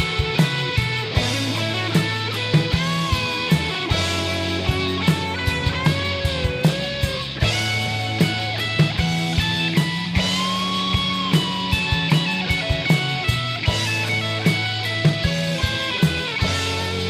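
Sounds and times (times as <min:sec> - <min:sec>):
bass guitar: 0:00.0 - 0:17.0
electric guitar lead lines: 0:00.0 - 0:17.0
steady drum beat: 0:00.0 - 0:17.0.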